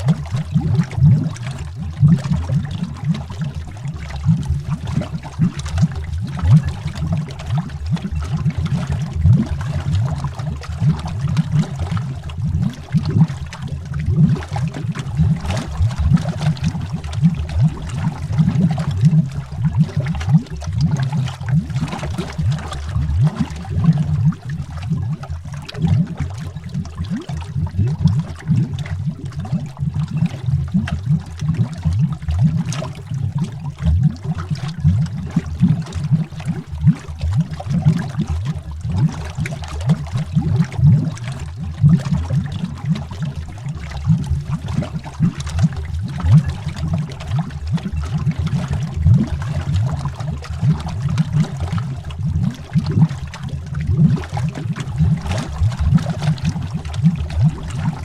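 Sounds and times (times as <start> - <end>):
underwater bubbling: 0.0 - 58.0.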